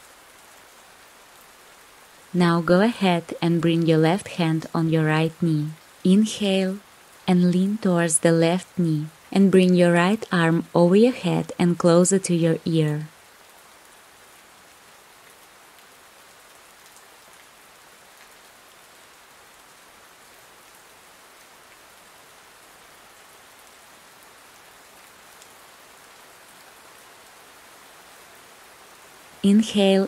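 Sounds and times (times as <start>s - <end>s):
light rain hiss: 0.0s - 30.0s.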